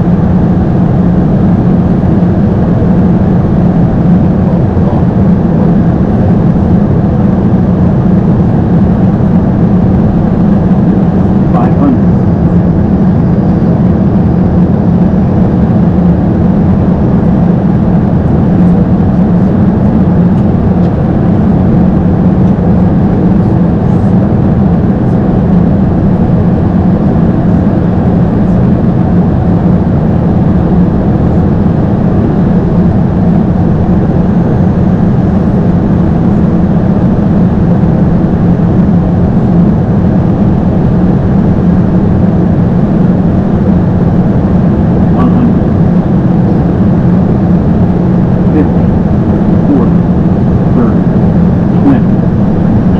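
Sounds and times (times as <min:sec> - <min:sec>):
airliner engine rumble: 0:00.0 - 0:52.9.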